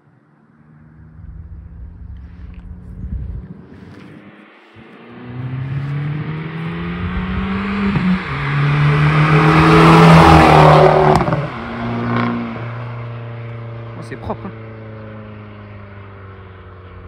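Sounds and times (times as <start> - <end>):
car accelerating past: 0.4 - 17.0.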